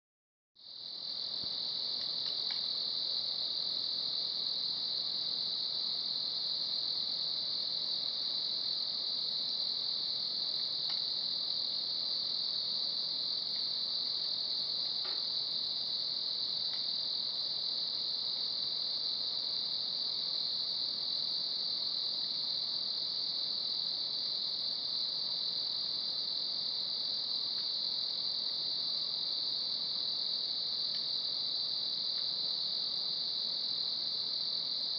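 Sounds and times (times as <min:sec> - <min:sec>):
night insects chorus: 0:00.6 - 0:34.9.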